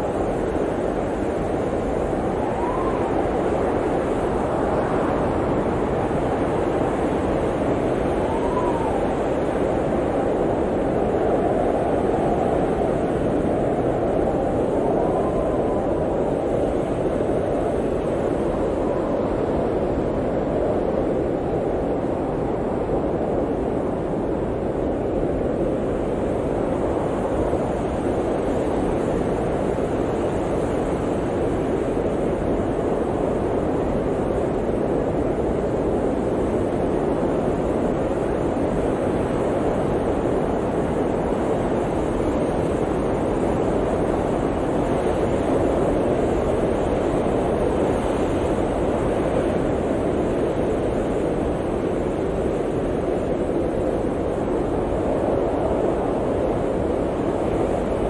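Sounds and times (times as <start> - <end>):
blizzard wind rushing: 0.0 - 58.0.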